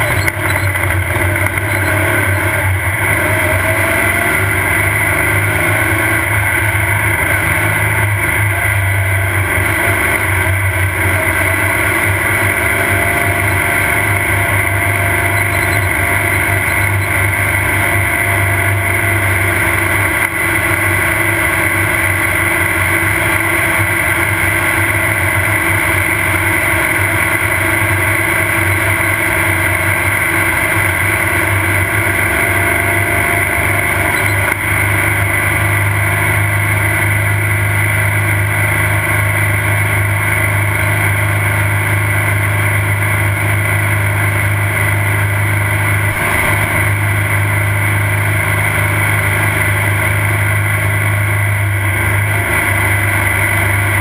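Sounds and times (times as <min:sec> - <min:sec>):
race car engine running: 0:00.0 - 0:54.0.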